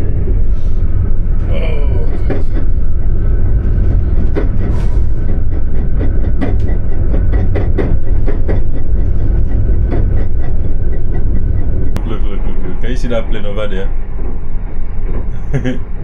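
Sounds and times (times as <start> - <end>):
train rumbling: 0.0 - 16.0
wheel clacks and rattles: 2.1 - 16.0.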